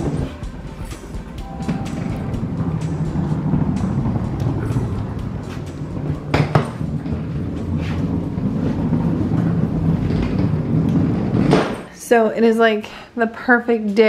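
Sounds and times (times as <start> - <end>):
suitcase wheels rolling on hard floor: 0.0 - 11.9.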